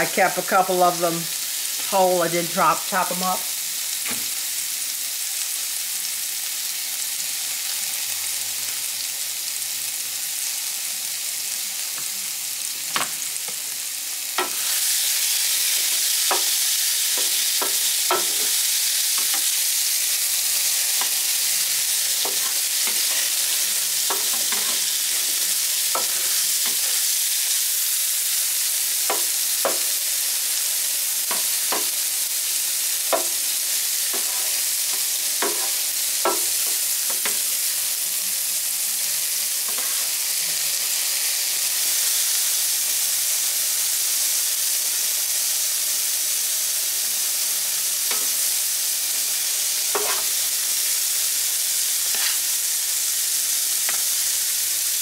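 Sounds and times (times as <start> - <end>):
food sizzling on a griddle: 0.0 - 55.0.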